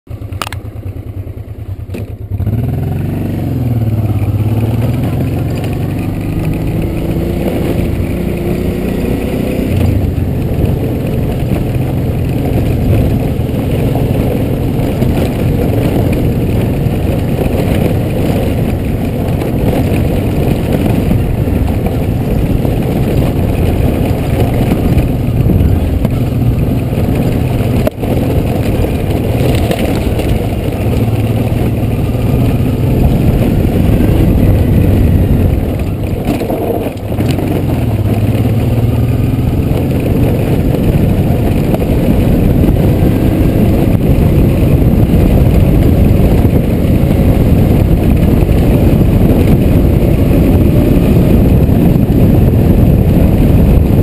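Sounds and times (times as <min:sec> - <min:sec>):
motorcycle engine accelerating: 0:00.1 - 0:54.0.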